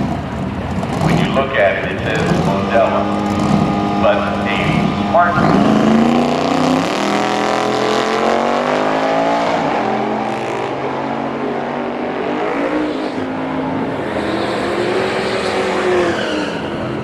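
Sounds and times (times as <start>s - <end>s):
drag racing engines at full throttle: 0.0s - 17.0s.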